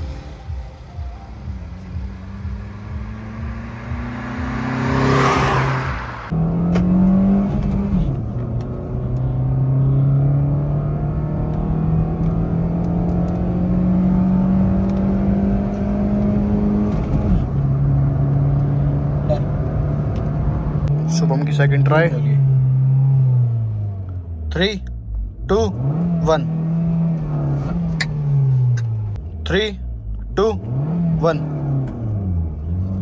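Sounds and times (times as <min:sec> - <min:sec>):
car engine accelerating through gears: 0:00.0 - 0:33.0.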